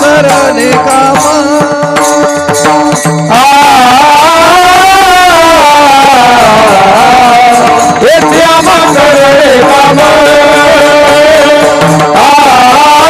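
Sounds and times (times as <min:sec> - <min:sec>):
instrumental accompaniment: 0:00.0 - 0:13.0
person singing devotional song: 0:00.0 - 0:13.0.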